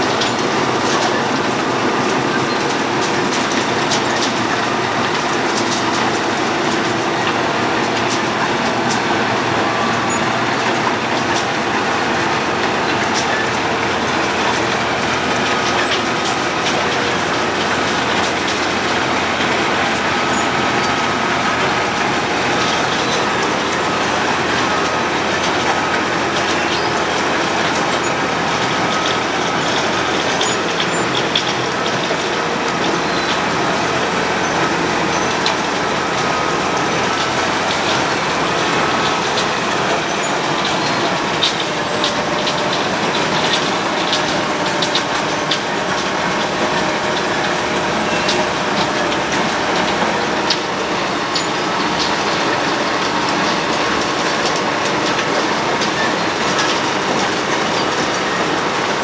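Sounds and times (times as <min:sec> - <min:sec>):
road planer grinding asphalt: 0:00.0 - 0:59.0.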